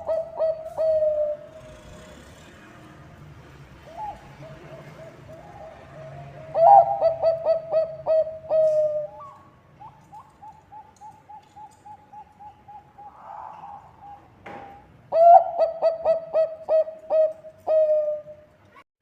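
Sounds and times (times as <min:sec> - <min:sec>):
dove cooing: 0:00.0 - 0:02.4, 0:03.8 - 0:18.4.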